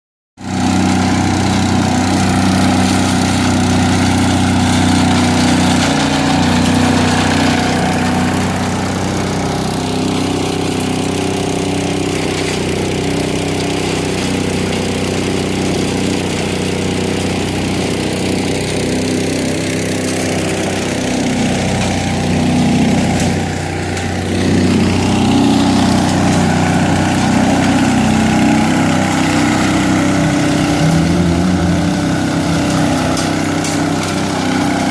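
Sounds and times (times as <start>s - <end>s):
leaf vacuum engine running: 0.4s - 34.9s.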